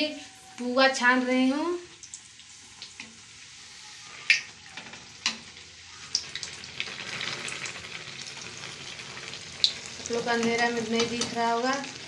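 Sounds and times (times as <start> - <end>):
deep-frying sizzle in oil: 0.0 - 12.0.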